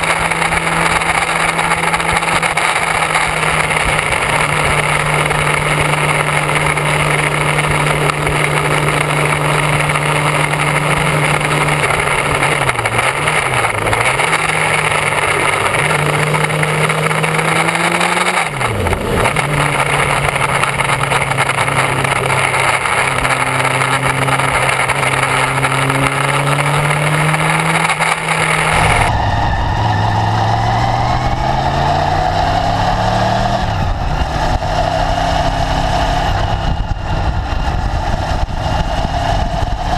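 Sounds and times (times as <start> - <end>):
motorcycle engine running: 0.0 - 39.9
wind and road noise hiss: 0.0 - 39.9.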